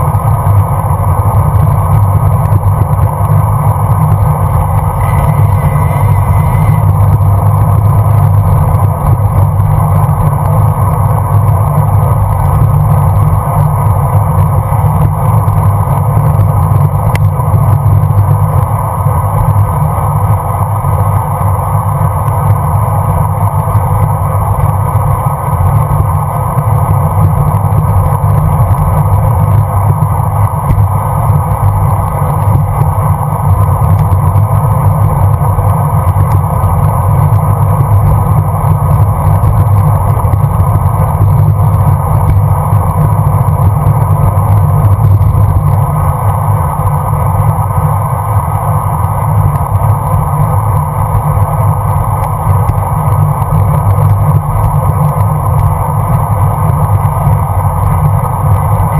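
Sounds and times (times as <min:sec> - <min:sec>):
tyre and road noise: 0:00.0 - 0:58.9
wind rush on microphone: 0:00.0 - 0:58.9.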